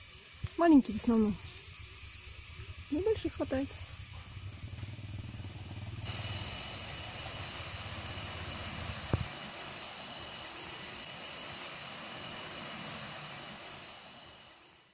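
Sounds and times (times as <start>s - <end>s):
outdoor hiss and hum: 0.0s - 14.9s
high whining tones: 0.9s - 14.8s.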